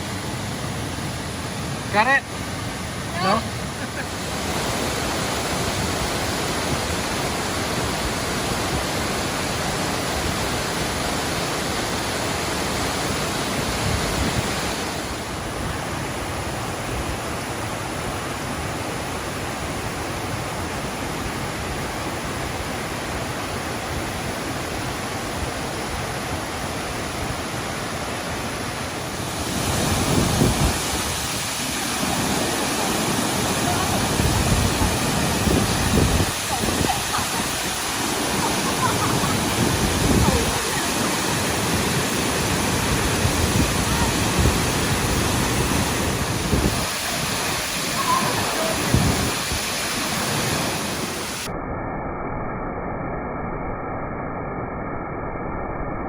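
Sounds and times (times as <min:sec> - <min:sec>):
waterfall rushing: 0:00.0 - 0:51.5.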